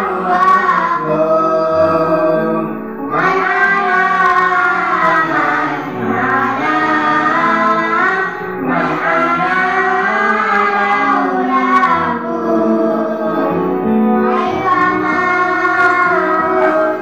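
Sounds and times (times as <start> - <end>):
children singing in unison: 0.0 - 17.0.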